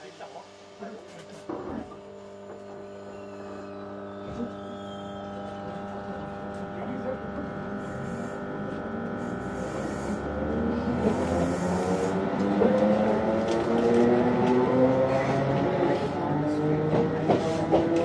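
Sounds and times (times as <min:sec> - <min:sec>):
electrical hum: 0:00.4 - 0:15.6
train motor whine rising: 0:02.2 - 0:18.0.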